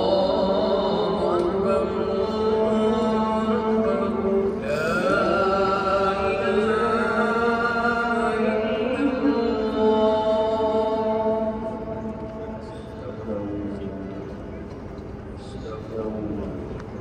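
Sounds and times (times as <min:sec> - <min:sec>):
man chanting over loudspeakers: 0:00.0 - 0:14.4, 0:15.4 - 0:16.8.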